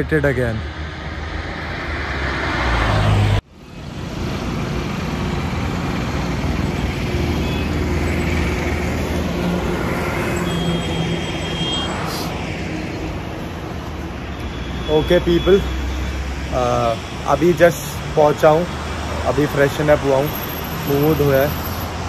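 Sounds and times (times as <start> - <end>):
highway traffic: 0.0 - 22.0.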